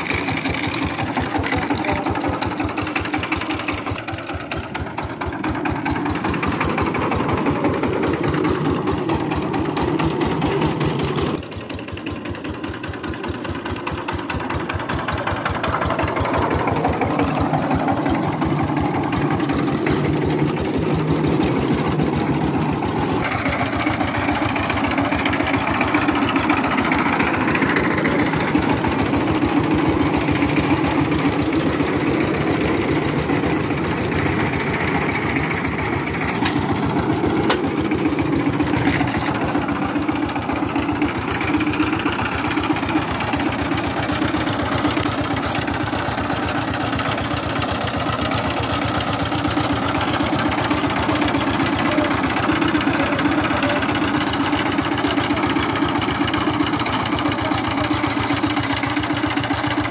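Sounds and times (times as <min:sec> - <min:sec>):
single-cylinder diesel engine running: 0:00.0 - 0:59.9.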